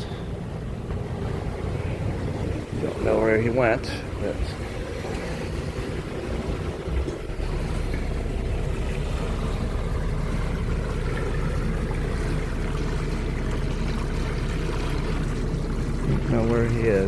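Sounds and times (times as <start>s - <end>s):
motorboat engine drone: 0.0s - 17.0s.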